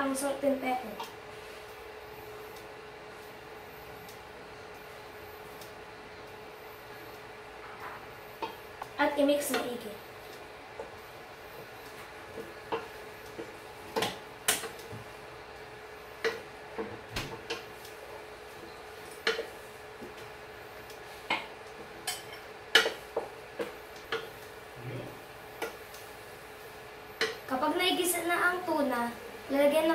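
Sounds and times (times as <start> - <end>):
faint steady hum: 0.0 - 29.9.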